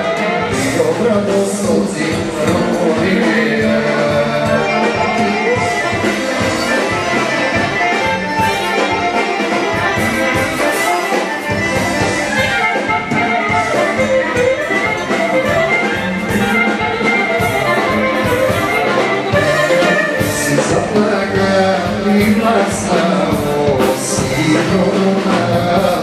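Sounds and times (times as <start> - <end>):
instrumental folk dance music: 0.0 - 26.0.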